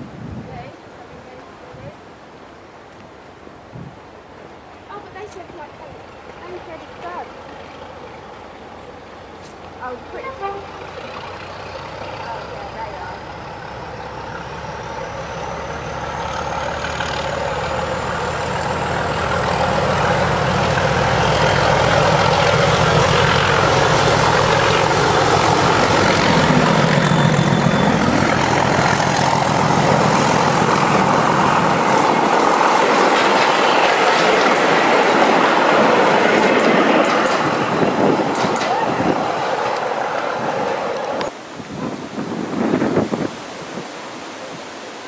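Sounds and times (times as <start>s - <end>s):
diesel locomotive engine passing: 3.3s - 43.8s
train wheels on rails: 4.9s - 41.4s.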